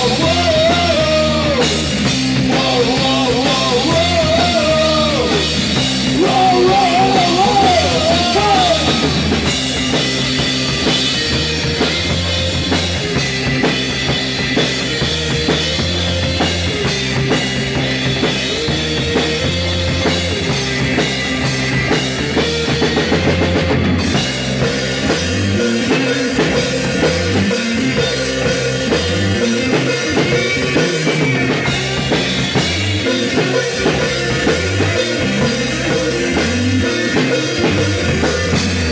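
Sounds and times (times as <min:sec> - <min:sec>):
drum kit with cymbals: 0:00.0 - 0:38.9
electric guitar: 0:00.0 - 0:38.9.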